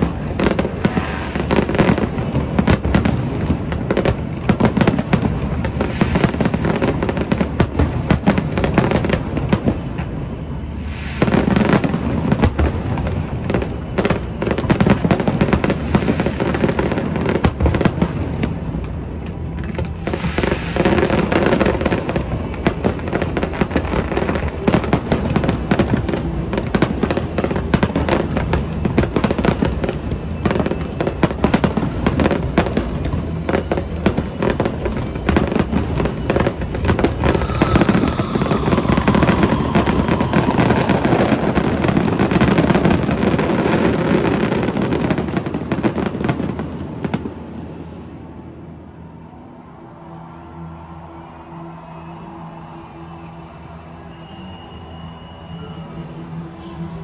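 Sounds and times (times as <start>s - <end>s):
fireworks bursting and crackling: 0.0s - 57.0s
music: 0.0s - 57.0s.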